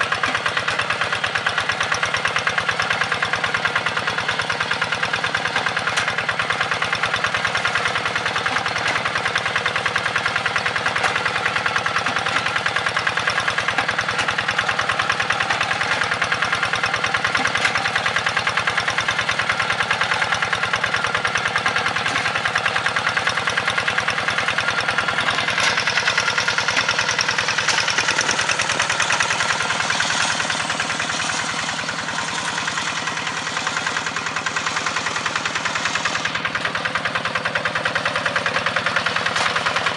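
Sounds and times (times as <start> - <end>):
hand tractor engine chugging: 0.0 - 39.9.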